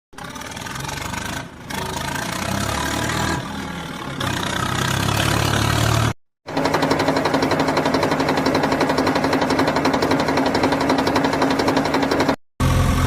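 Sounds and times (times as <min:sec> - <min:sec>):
rattling engine: 0:00.1 - 0:13.0
tractor engine revving: 0:00.1 - 0:13.0.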